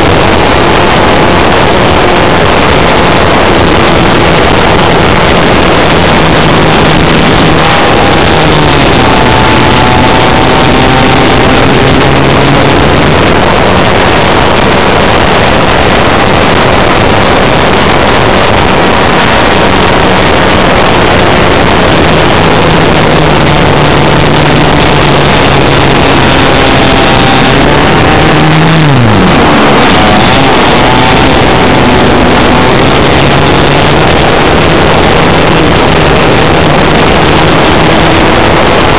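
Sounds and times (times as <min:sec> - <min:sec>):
heavy wind rush: 0:00.0 - 0:38.9
model aeroplane engine: 0:00.0 - 0:38.9.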